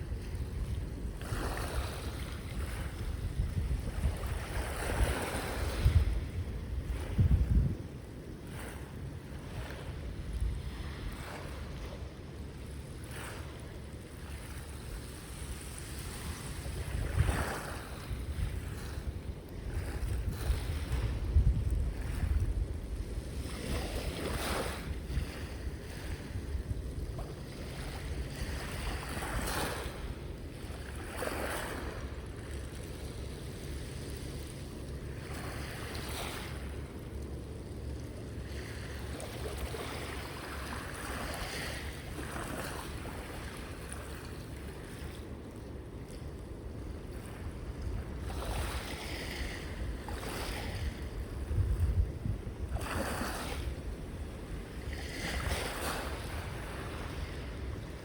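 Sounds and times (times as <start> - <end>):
sea waves washing on shore: 0.0 - 58.0
wind rumble on microphone: 0.0 - 58.0.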